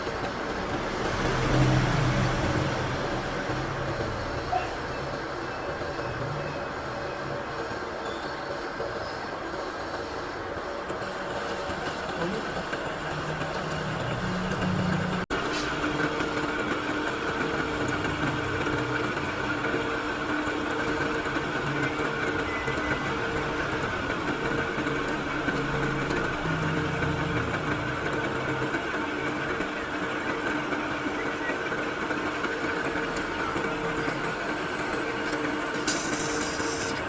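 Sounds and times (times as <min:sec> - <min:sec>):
machine humming: 0:00.0 - 0:37.0.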